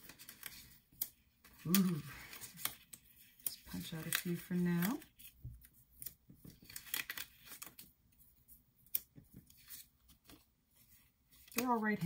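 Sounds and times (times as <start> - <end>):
paper rustling and tearing: 0.0 - 12.0.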